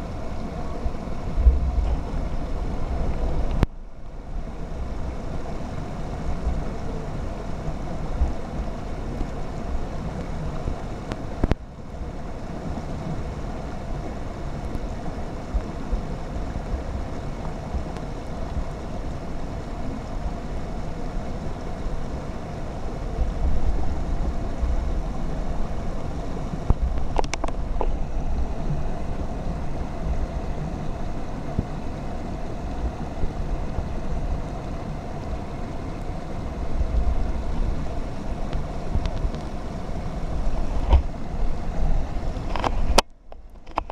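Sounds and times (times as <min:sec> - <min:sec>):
creek water rushing: 0:00.0 - 0:43.9.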